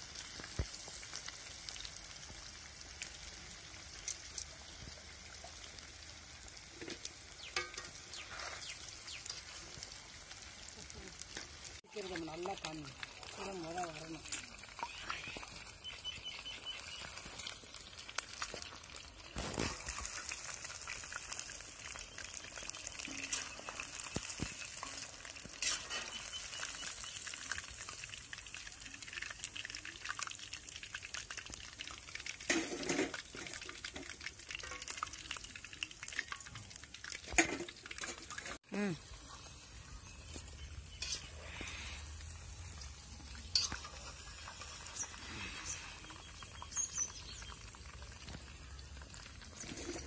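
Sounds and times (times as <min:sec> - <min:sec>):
deep-frying crackling sizzle: 0:00.0 - 0:50.0.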